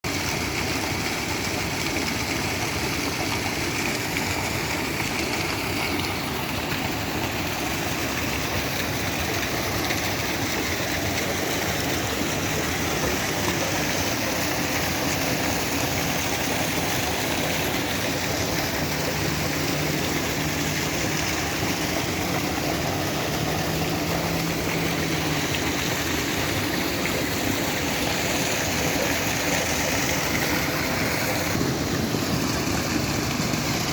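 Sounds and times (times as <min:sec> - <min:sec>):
falling water rushing: 0:00.0 - 0:33.9.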